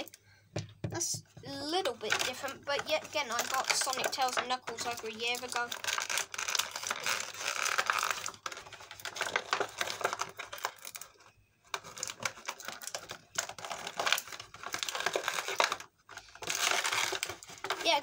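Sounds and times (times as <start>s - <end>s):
plastic packaging crinkling and clicking: 1.6s - 18.0s.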